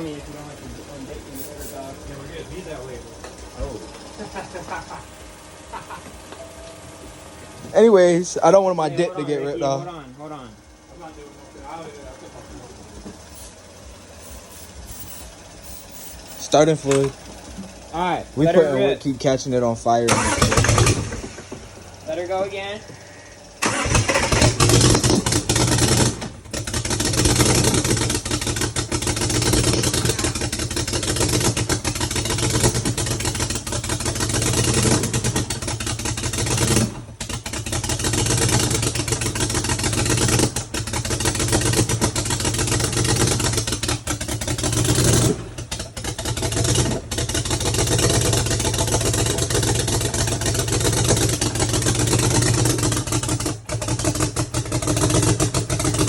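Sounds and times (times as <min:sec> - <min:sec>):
car engine running unevenly: 0:00.0 - 0:56.0.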